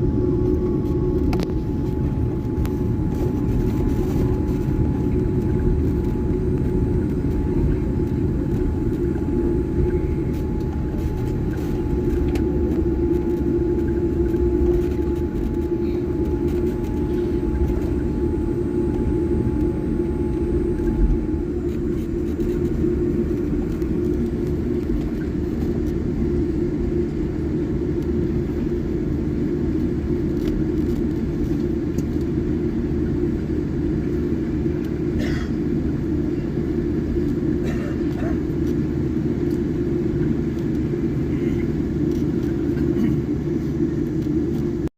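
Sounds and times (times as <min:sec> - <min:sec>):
jet airliner rumble: 0:00.0 - 0:44.9
thin steady whine: 0:00.0 - 0:44.9.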